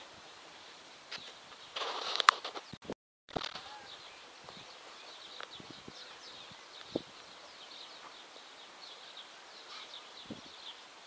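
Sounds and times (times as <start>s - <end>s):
faint steady hiss: 0.0s - 11.0s
small birds chirping: 0.1s - 2.8s, 3.4s - 11.0s.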